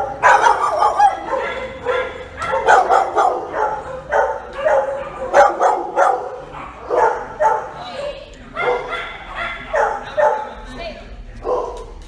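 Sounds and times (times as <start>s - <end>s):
big dogs barking: 0.0s - 10.7s, 11.4s - 12.0s.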